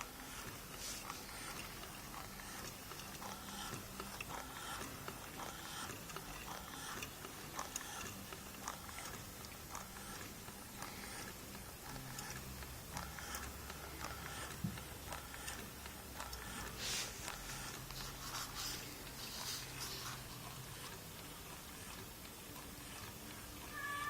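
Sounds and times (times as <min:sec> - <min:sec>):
faint mechanical clicking: 0:00.0 - 0:24.0.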